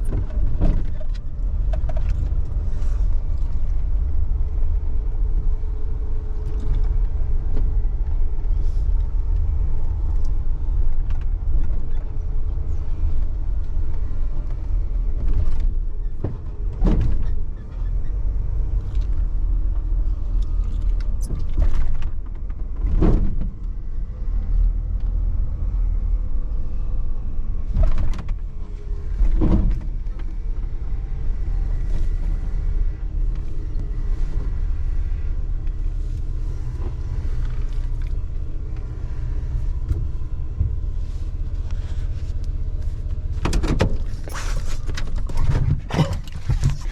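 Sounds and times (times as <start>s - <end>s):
car road rumble: 0.0s - 46.9s.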